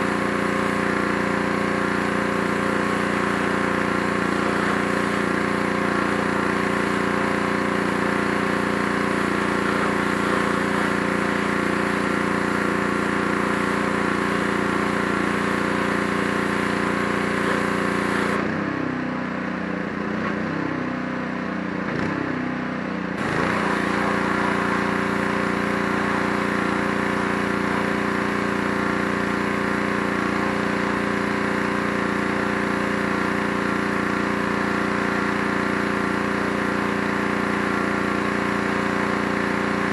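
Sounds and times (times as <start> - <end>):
hissing water spray: 0.0 - 18.4, 23.2 - 39.9
pressure washer engine running: 0.0 - 39.9.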